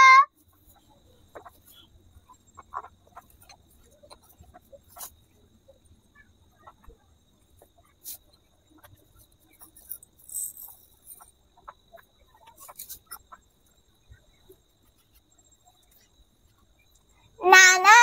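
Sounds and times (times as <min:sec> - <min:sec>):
faint steady high tone: 0:00.0 - 0:18.0.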